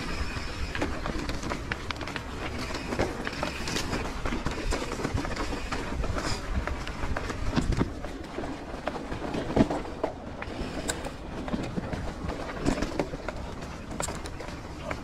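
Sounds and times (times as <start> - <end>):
bike rattling: 0.0 - 15.0
bike tyres rumbling on dirt: 0.0 - 15.0.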